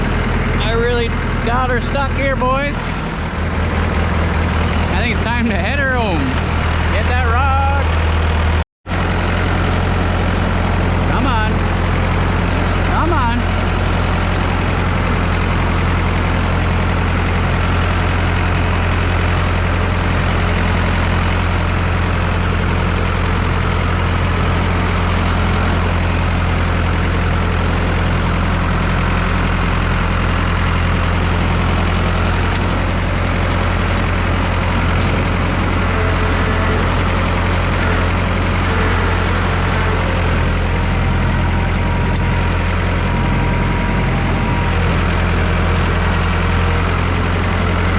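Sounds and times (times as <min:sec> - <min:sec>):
diesel tractor engine humming: 0:00.0 - 0:47.9.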